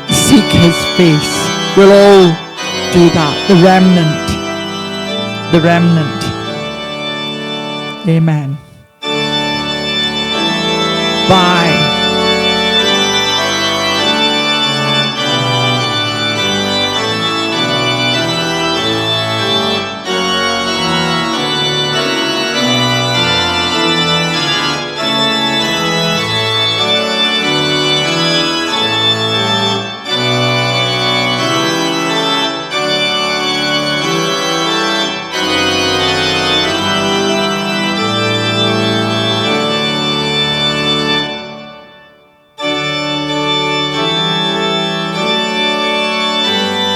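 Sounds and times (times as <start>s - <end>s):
organ sustained chords: 0.0s - 46.9s.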